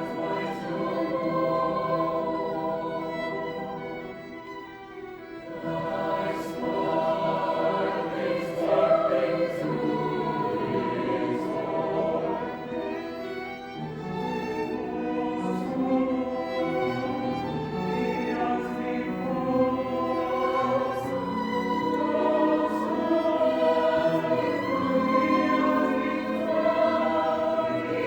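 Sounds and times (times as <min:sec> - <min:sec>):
choir singing sustained chords: 0:00.0 - 0:28.0
strings: 0:00.0 - 0:28.0.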